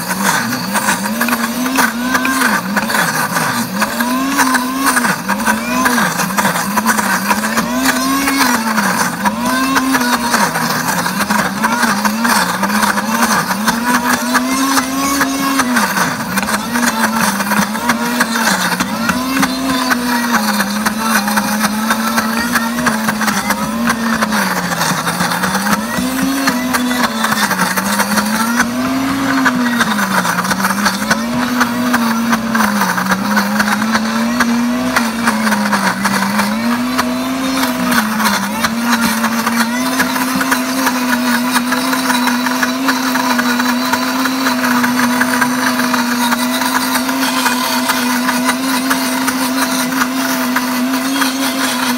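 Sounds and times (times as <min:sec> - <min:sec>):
blender motor grinding nuts: 0:00.0 - 0:51.9.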